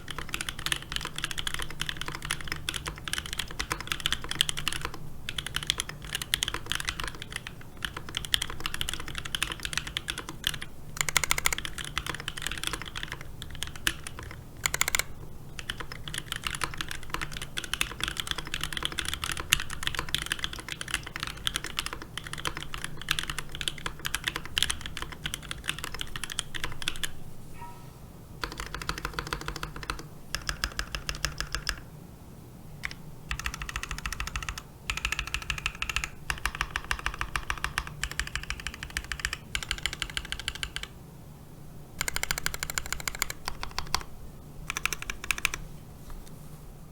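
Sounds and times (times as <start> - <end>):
mechanical keyboard typing: 0.0 - 27.2, 28.4 - 31.8, 32.8 - 40.9, 42.0 - 44.1, 44.7 - 45.6.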